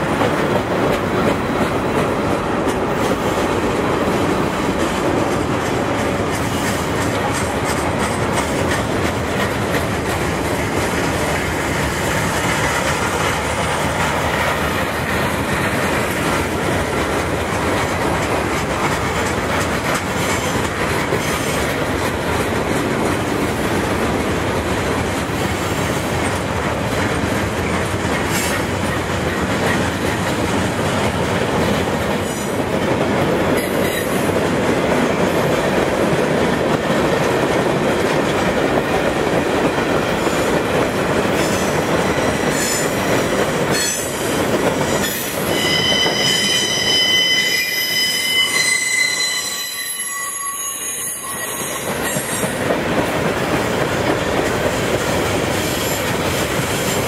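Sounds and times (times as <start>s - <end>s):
train wheels clickety-clack: 0.0s - 57.0s.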